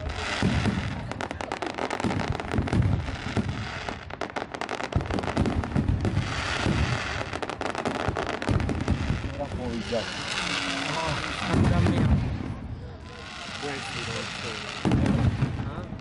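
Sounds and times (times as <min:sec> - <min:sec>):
fireworks booms: 0:00.0 - 0:16.0
fireworks crackling: 0:00.0 - 0:16.0.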